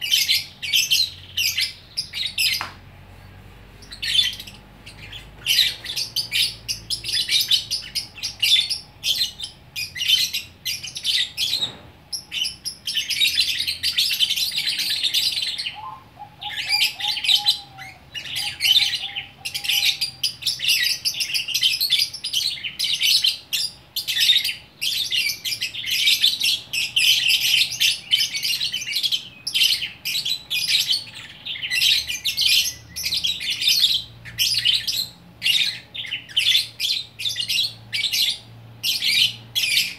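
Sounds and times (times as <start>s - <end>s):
lovebird twittering trills: 3.8s - 39.9s.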